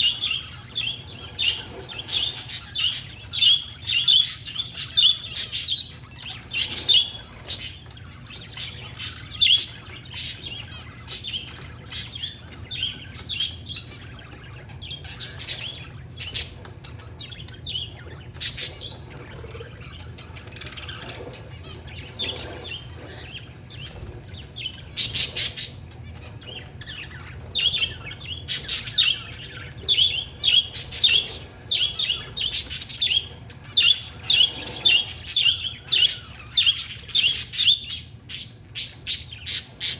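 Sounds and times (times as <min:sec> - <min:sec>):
faint low hum: 0:00.0 - 0:39.9
parakeets and finches chirping: 0:00.0 - 0:39.9.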